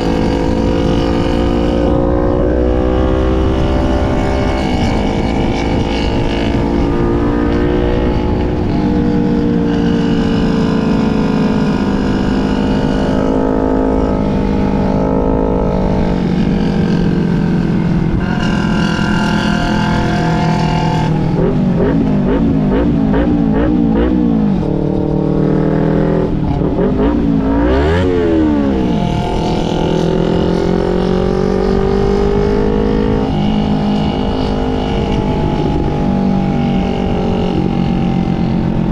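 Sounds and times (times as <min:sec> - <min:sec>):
motorcycle engines revving: 0:00.0 - 0:38.9.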